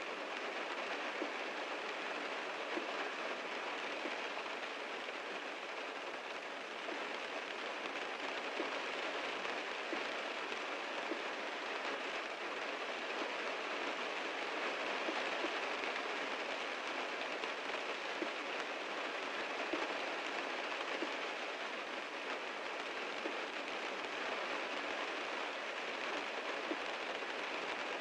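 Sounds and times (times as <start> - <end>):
heavy rain on a car: 0.0 - 28.0.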